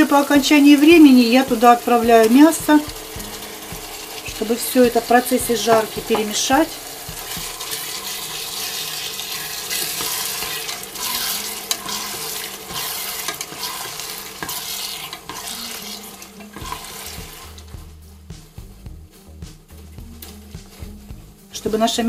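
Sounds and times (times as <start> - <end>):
food sizzling: 0.0 - 22.0
spatula stirring and scraping: 0.0 - 22.0.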